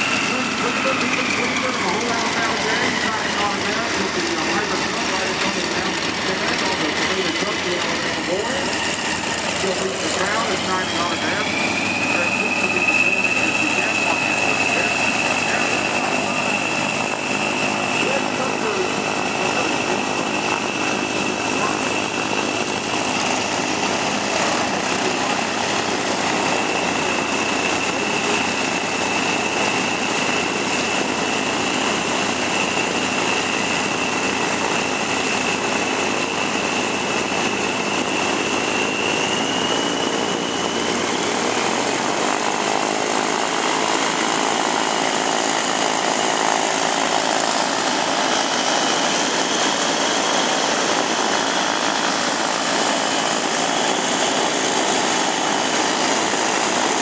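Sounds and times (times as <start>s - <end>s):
aircraft engines running: 0.0s - 57.0s
high engine whine: 0.0s - 57.0s.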